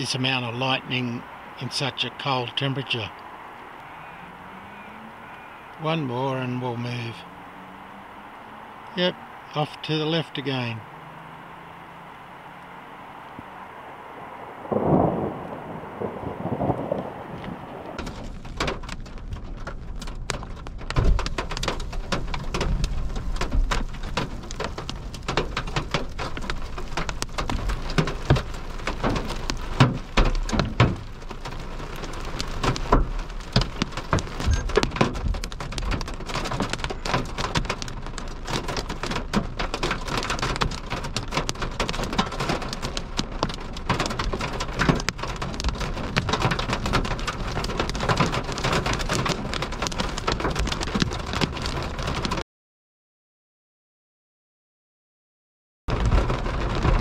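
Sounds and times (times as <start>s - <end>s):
rain pelting car windscreen: 0.0s - 52.4s, 55.9s - 57.0s
thunder rumbling: 0.0s - 52.4s, 55.9s - 57.0s.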